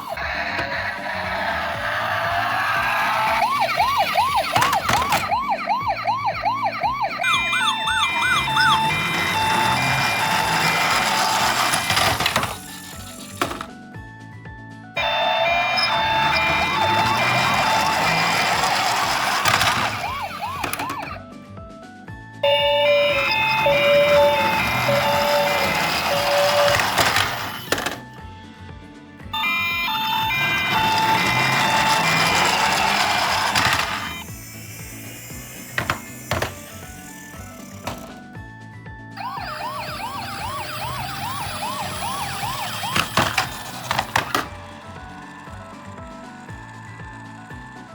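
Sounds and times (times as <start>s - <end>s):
toy ambulance siren chirps: 0.0s - 13.7s, 15.0s - 21.2s, 22.4s - 28.2s, 29.2s - 38.6s, 39.2s - 47.9s.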